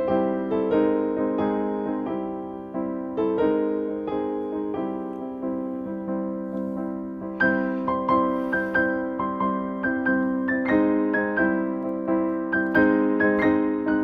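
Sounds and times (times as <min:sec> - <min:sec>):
slow gentle piano notes: 0:00.0 - 0:14.0.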